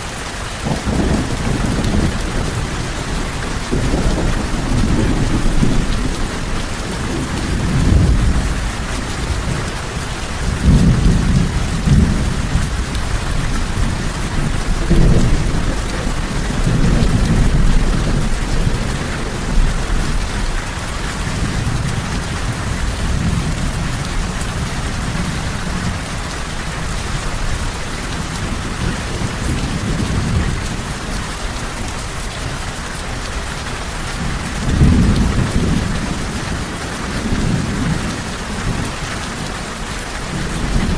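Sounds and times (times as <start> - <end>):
heavy rain: 0.0 - 40.9
thunder rumbling: 0.6 - 32.7, 33.9 - 40.9.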